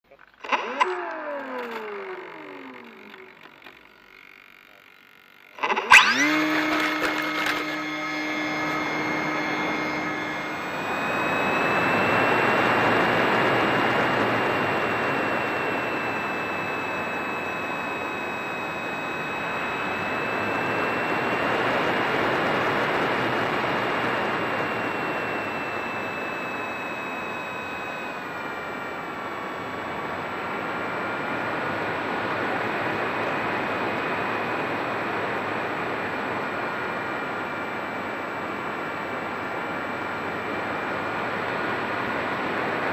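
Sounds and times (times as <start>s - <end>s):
model airplane motor whine: 0.3s - 42.9s.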